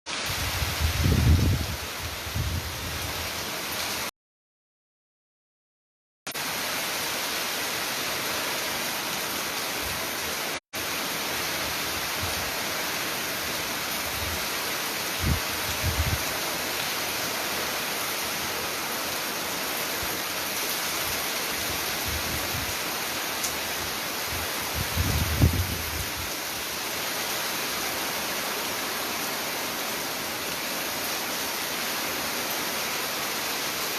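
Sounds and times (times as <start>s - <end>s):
heavy rain falling: 6.4s - 33.9s.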